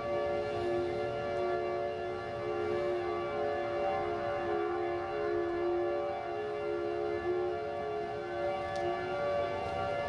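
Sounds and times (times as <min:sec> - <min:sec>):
tornado warning siren: 0:00.0 - 0:10.0.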